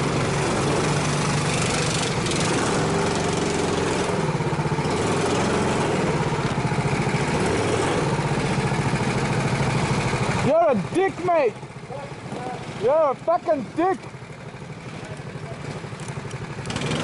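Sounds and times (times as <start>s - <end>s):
go-kart engines running: 0.0s - 17.0s.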